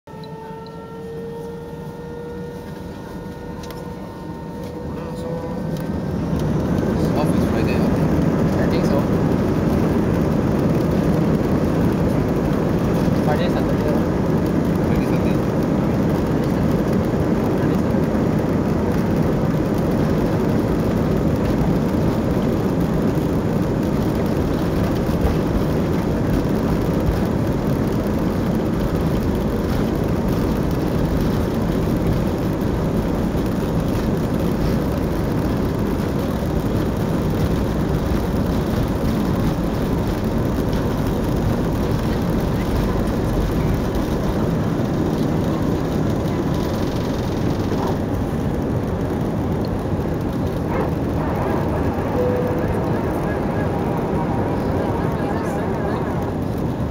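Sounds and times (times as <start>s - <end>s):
runway rumble: 0.0s - 56.9s
jet engines at takeoff thrust: 0.1s - 56.9s.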